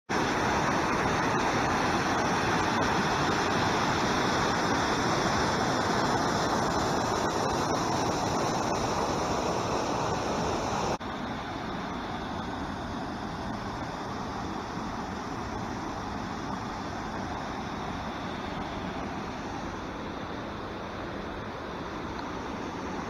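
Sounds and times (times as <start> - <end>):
waterfall and rapids rushing: 0.1 - 23.0.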